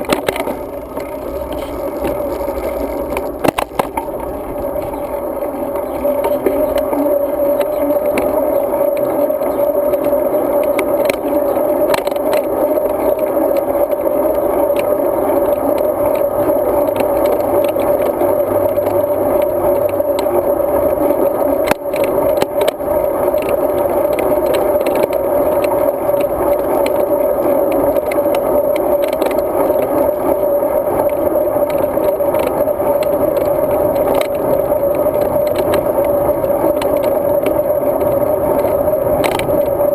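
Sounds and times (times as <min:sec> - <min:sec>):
bike rattles and clicks: 0:00.0 - 0:39.9
muffled road and wind noise: 0:00.0 - 0:39.9.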